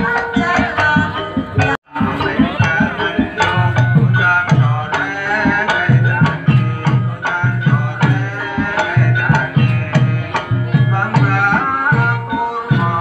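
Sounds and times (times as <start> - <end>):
gamelan ensemble playing: 0.0 - 13.0.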